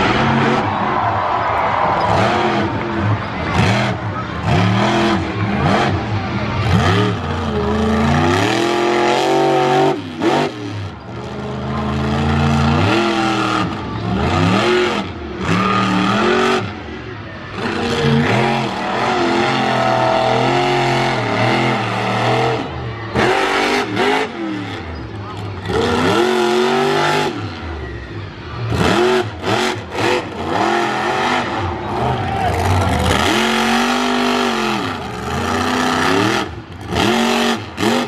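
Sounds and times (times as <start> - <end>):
monster truck engine revving: 0.0 - 38.0.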